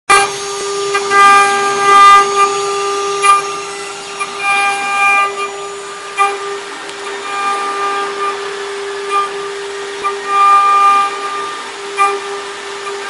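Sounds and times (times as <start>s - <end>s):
ringing whine of cutter: 0.1s - 13.0s
spindle whining: 0.1s - 13.0s.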